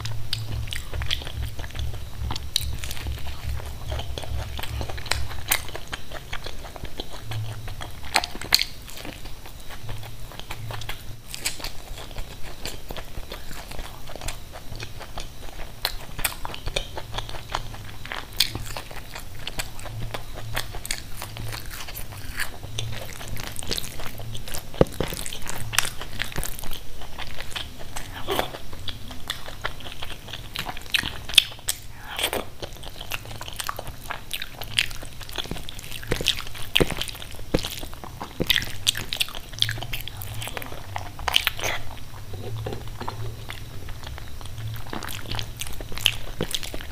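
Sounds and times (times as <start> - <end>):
chewing mouth sounds: 0.0 - 46.9
crunching fried snacks: 0.0 - 46.9.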